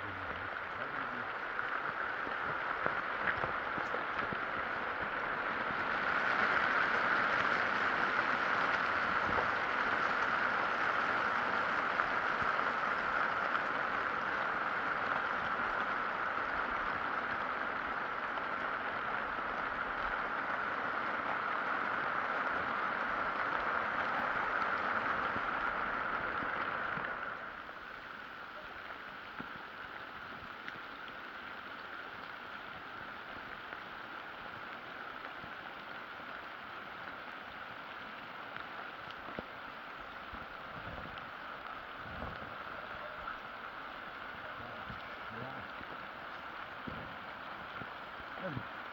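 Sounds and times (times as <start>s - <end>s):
steady rain hiss: 0.0s - 48.9s.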